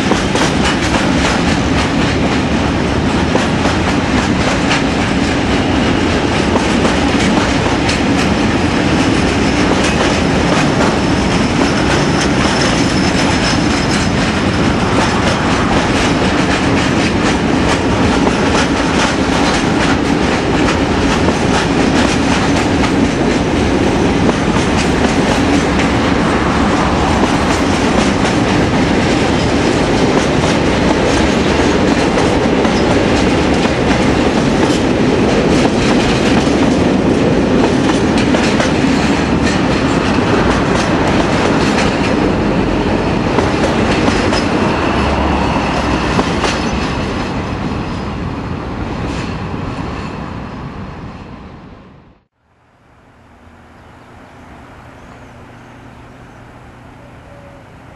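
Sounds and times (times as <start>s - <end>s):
wheels clacking over rail joints: 0.0s - 47.8s
freight train rumbling past: 0.0s - 57.9s.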